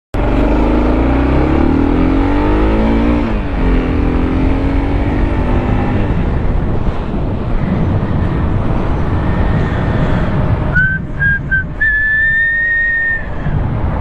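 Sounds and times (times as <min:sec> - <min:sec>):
car engine accelerating: 0:00.2 - 0:14.0.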